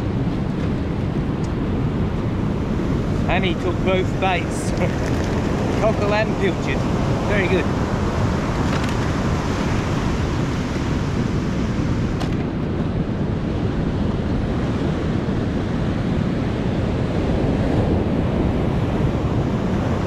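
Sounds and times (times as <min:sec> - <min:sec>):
surf breaking on a beach: 0:00.0 - 0:20.0
wind on microphone: 0:00.0 - 0:20.0.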